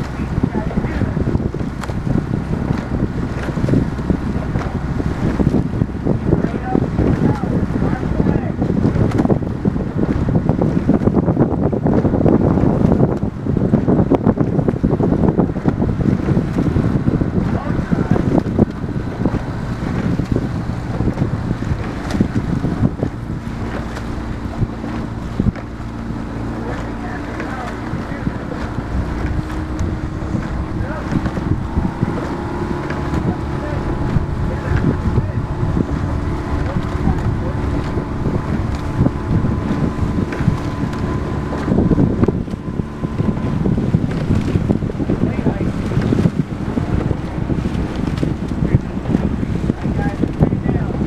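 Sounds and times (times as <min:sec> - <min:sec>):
rowing boat moving through water: 0:00.0 - 0:51.0
wind buffeting microphone: 0:00.0 - 0:51.0.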